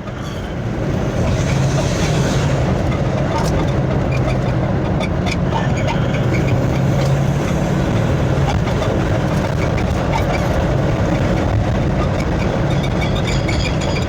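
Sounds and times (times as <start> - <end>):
diesel engine running: 0.0 - 14.0
engine misfire and knock: 0.0 - 14.0
road and drive noise: 0.0 - 14.0.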